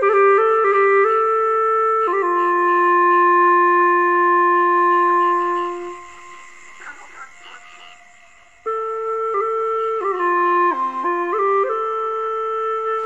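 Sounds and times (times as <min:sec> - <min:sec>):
wind instrument music: 0:00.0 - 0:13.0.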